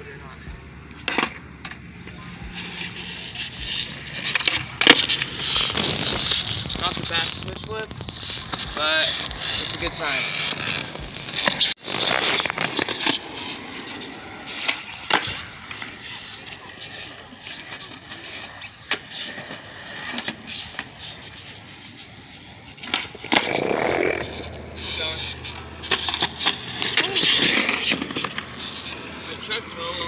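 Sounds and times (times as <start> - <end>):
skateboard rolling over concrete: 0.0 - 30.0
skateboard clacking on ground: 0.9 - 30.0.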